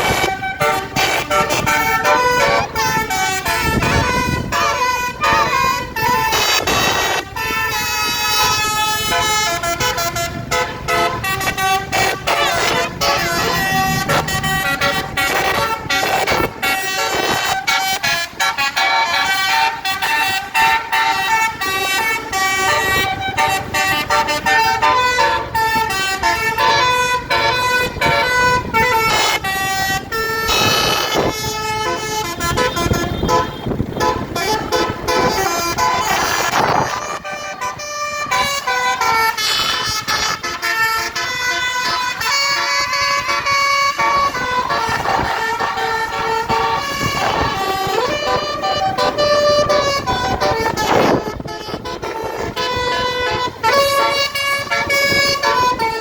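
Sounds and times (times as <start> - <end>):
musical air horn melody: 0.0 - 56.0.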